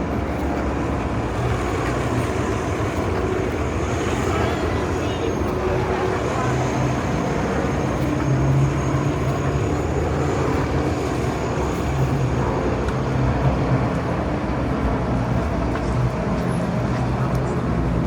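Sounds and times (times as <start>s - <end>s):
low engine hum: 0.0s - 18.0s
street traffic rumble: 0.0s - 18.0s.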